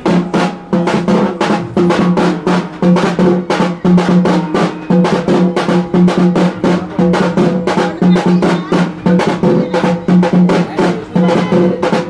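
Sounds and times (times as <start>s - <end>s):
fast steady drumming: 0.0s - 12.0s
pitched drum tone: 0.0s - 12.0s.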